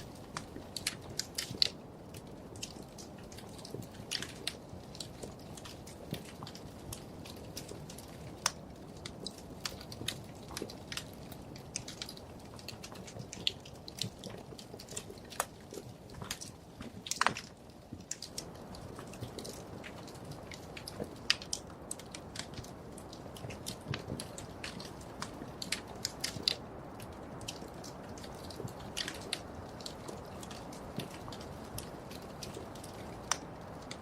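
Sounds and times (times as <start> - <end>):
low rumble of burning logs: 0.0 - 34.0
wood fire crackling: 0.0 - 34.0.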